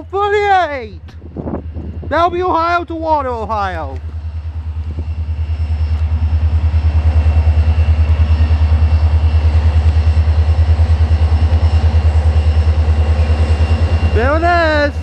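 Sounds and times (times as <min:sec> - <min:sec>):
locomotive engine rumble: 0:00.0 - 0:15.0.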